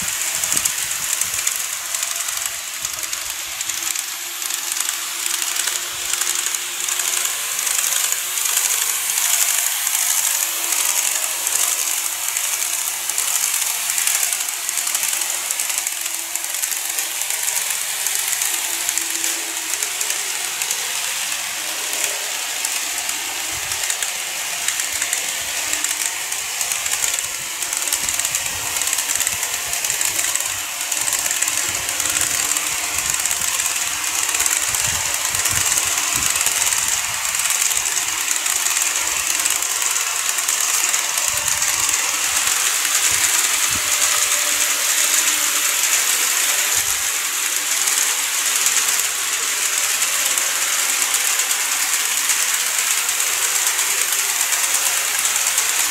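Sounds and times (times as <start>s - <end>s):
electric motors humming: 0.0s - 55.9s
small wheels rattling on rail: 0.0s - 55.9s.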